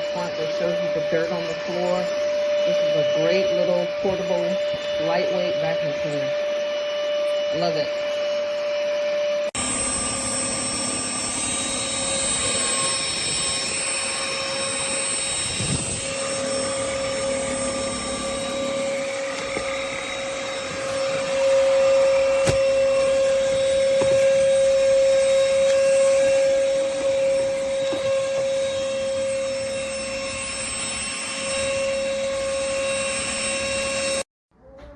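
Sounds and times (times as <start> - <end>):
stick vacuum cleaner running: 0.0 - 34.2.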